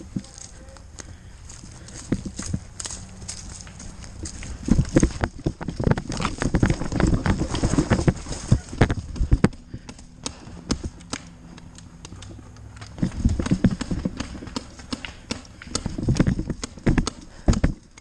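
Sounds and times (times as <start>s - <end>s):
running footsteps through brush: 0.0s - 16.4s.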